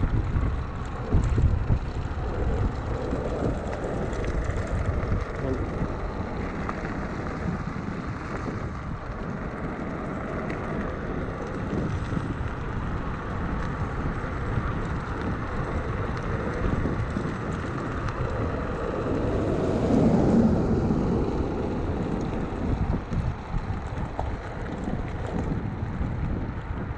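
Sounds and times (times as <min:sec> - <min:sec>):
wind rushing over microphone: 0:00.0 - 0:26.9.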